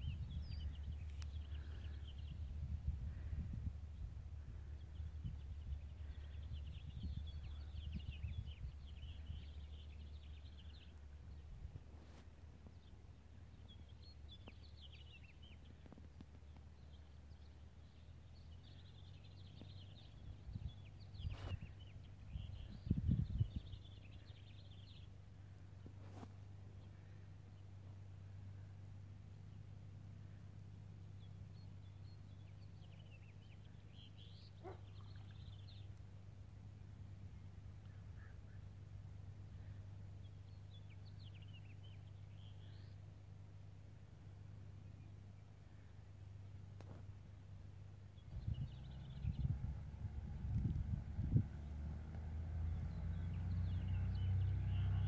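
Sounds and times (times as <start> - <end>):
small birds twittering: 0.0 - 55.0
steady low hum: 0.0 - 55.0.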